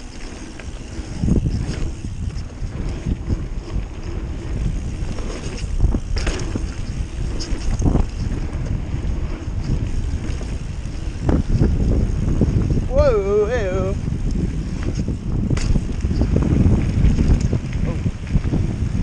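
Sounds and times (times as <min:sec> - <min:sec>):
bike rattles and knocks: 0:00.0 - 0:19.0
wind rushing over microphone: 0:00.0 - 0:19.0.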